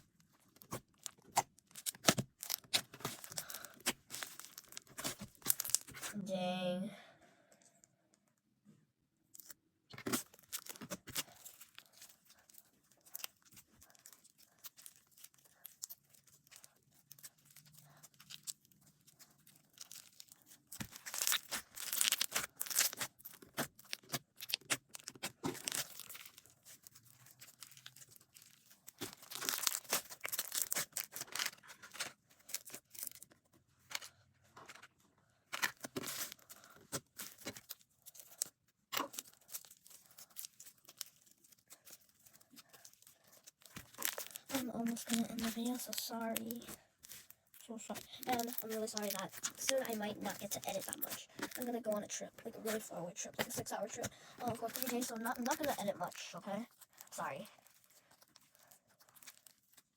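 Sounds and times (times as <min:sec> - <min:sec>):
slime squishing: 0:00.0 - 0:06.7, 0:09.4 - 0:34.1, 0:35.5 - 0:59.9.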